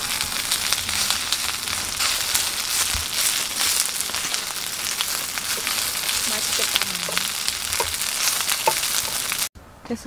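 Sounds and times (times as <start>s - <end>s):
pancakes sizzling on a griddle: 0.0s - 9.5s.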